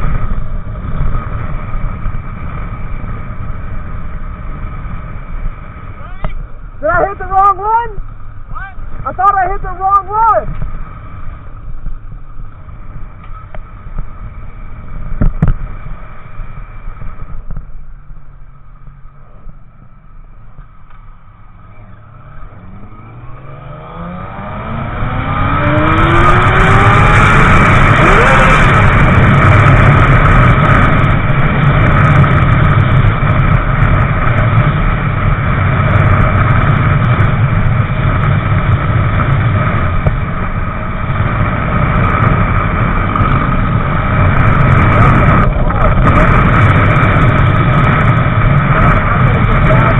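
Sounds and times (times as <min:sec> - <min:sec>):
motorcycle engine accelerating: 0:00.0 - 0:49.9
wind noise: 0:00.0 - 0:49.9.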